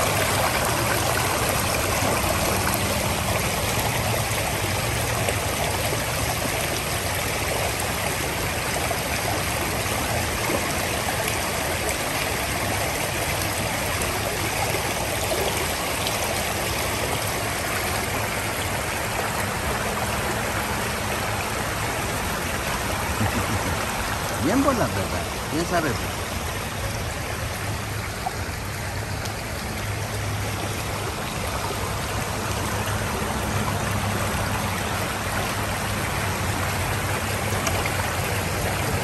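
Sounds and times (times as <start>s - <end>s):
creek rushing over rocks: 0.0s - 39.0s.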